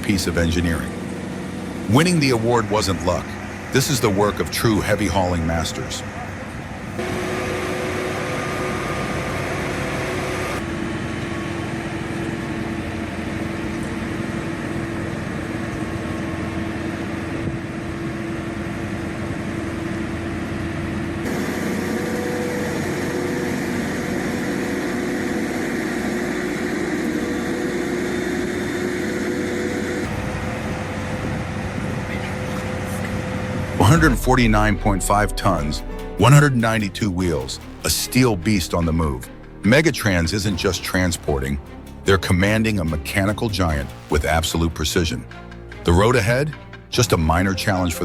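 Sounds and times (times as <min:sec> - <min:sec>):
truck engines droning: 0:00.0 - 0:48.0.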